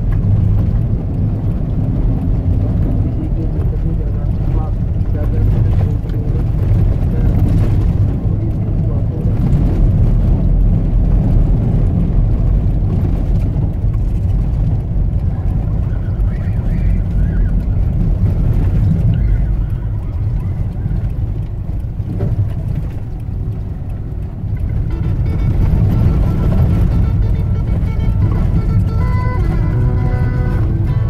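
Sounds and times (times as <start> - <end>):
tyres on dirt track: 0.0 - 31.0
vehicle engine rumble: 0.0 - 31.0.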